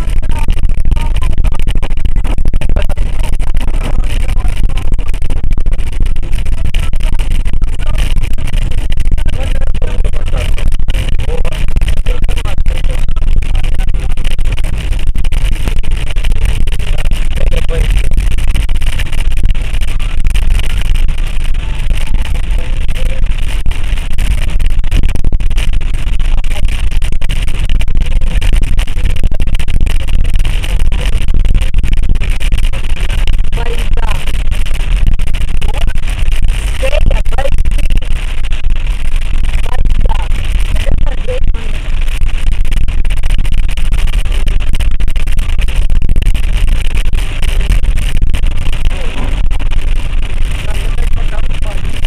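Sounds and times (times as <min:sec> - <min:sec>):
heavy rain downpour: 0:00.0 - 0:52.0.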